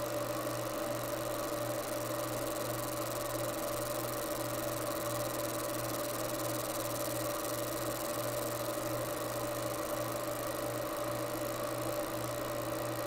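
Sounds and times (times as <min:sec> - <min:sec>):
laser engraver humming: 0:00.0 - 0:13.0.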